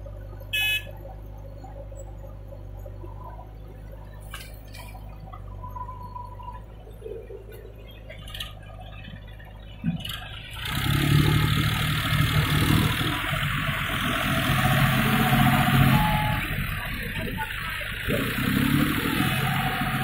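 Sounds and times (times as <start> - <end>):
tractor diesel engine: 0.0 - 20.0.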